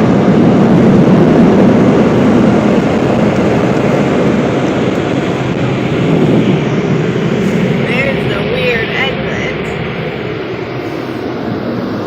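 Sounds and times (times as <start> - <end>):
car wash machinery roaring: 0.0 - 12.0.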